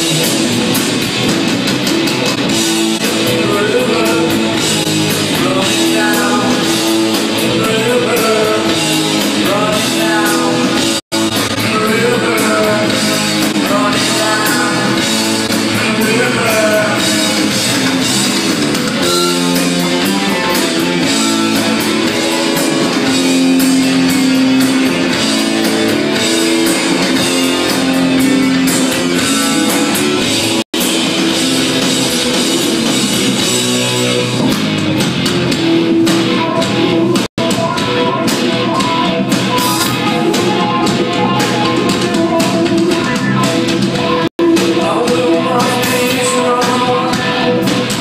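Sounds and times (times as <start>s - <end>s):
drums: 0.0s - 48.0s
electric guitar: 0.0s - 48.0s.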